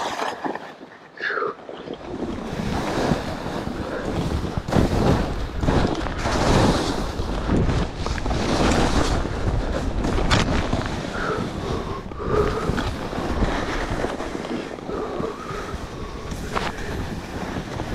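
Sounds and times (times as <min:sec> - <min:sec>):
wind rumbling on microphone: 0:01.8 - 0:17.9
skis scraping over snow: 0:02.4 - 0:17.9.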